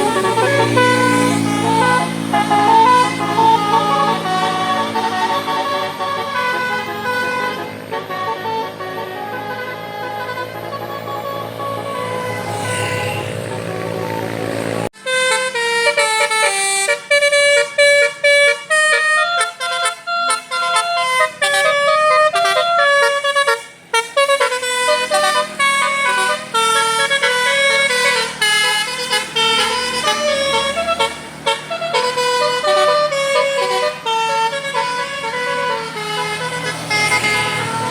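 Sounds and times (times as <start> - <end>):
musical bus horn playing a tune: 0.0 - 37.9.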